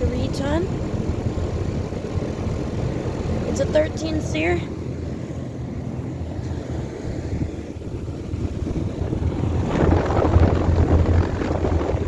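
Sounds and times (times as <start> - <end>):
compressor humming: 0.0 - 12.0
condenser fan air rush: 0.0 - 12.0.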